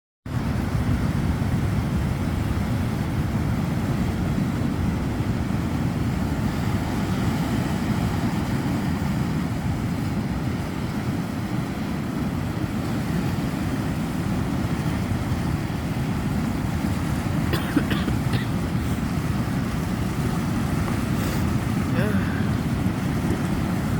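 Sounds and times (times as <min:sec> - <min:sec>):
surf washing on beach: 0:00.3 - 0:23.9
wind buffeting microphone: 0:00.3 - 0:23.9.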